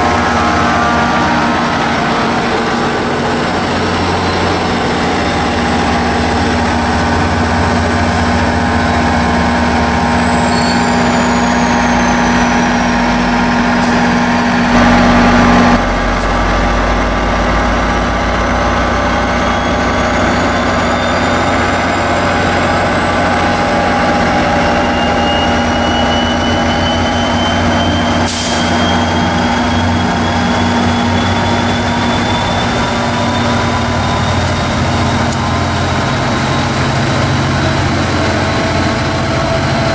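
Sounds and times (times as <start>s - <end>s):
diesel locomotive running: 0.0s - 39.9s
high whine: 0.0s - 39.9s.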